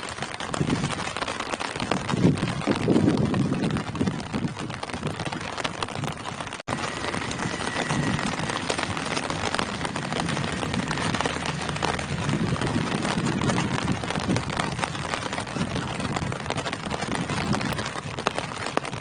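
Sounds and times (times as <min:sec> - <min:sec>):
rain falling on leaves: 0:00.0 - 0:19.0
low rumbling: 0:01.9 - 0:18.9.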